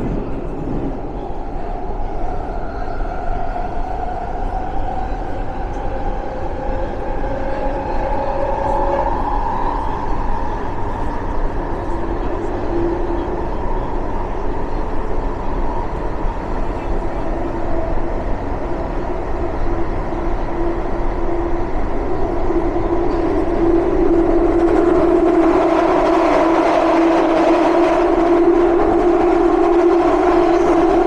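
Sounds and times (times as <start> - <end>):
train whine: 0.0 - 31.0
underground train rumbling: 0.0 - 31.0.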